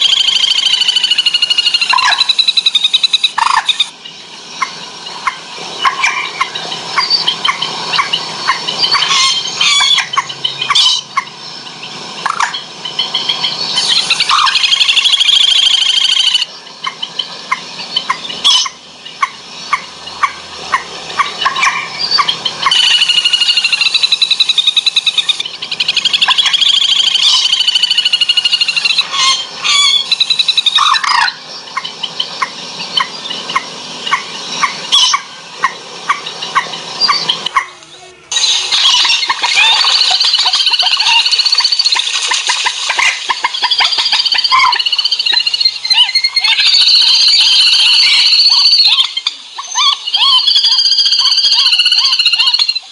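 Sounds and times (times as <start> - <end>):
recorded bird calls through speakers: 0.0 - 52.9.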